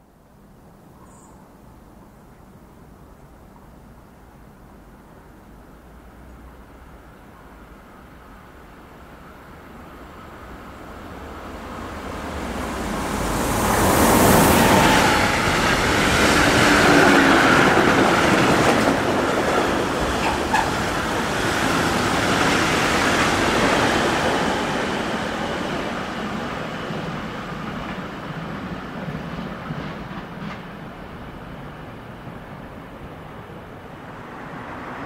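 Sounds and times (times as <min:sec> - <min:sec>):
electric locomotive passing: 0:06.4 - 0:35.0.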